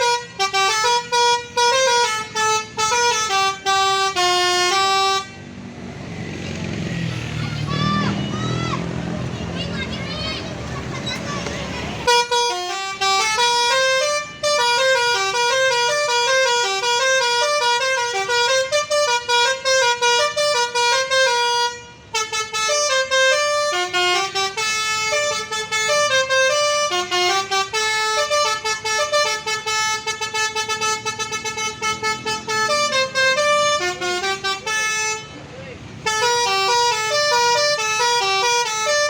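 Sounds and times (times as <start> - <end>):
musical air horn playing a tune: 0.0 - 5.4, 12.0 - 39.0.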